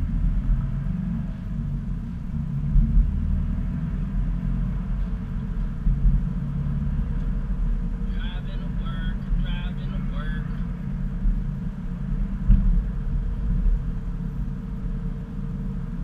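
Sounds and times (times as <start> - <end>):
engine and road rumble in car: 0.0 - 16.0.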